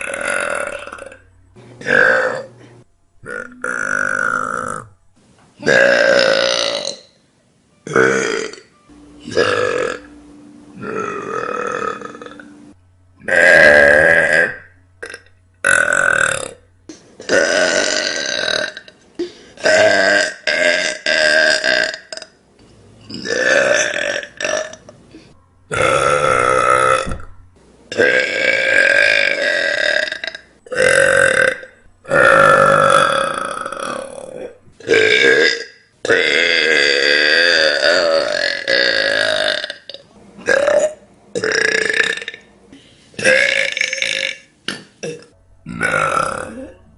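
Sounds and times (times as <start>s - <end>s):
person burping: 0.0s - 1.2s, 1.8s - 2.6s, 3.2s - 4.9s, 5.6s - 7.1s, 7.9s - 10.1s, 10.8s - 12.4s, 13.2s - 22.3s, 23.1s - 27.3s, 27.9s - 42.5s, 43.2s - 46.9s.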